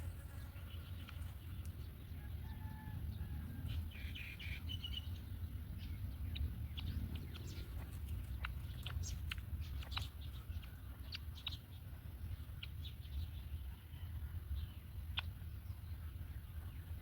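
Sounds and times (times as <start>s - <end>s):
birds chirping: 0.0s - 17.0s
steady low rumble: 3.0s - 17.0s.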